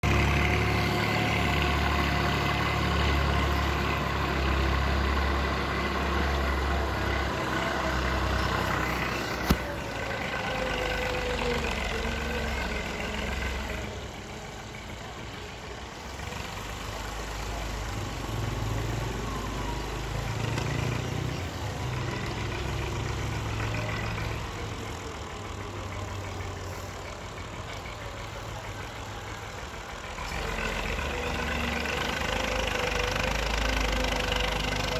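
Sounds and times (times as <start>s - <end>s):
engine whine: 0.0s - 34.9s
excavator diesel engine: 0.0s - 34.9s.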